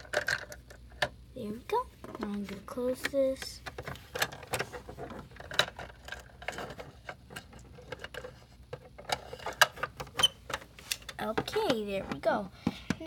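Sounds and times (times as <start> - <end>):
plastic toys clicking and tapping: 0.0 - 1.1, 2.0 - 13.0.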